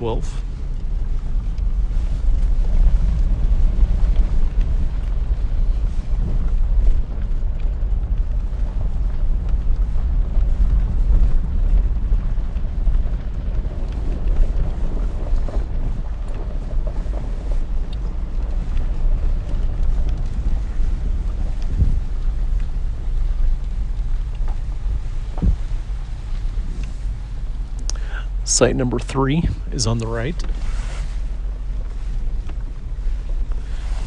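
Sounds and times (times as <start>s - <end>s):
vehicle driving on gravel road: 0.0s - 34.0s
wind buffeting microphone: 0.0s - 34.0s.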